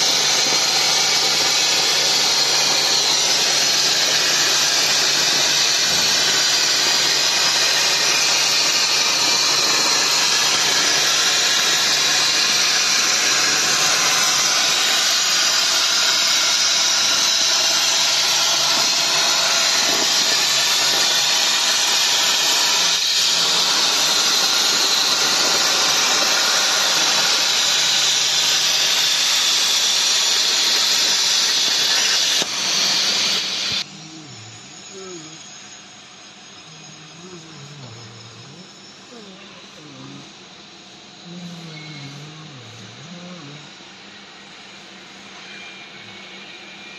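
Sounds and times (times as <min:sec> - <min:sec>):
plasma cutter hissing: 0:00.0 - 0:46.9.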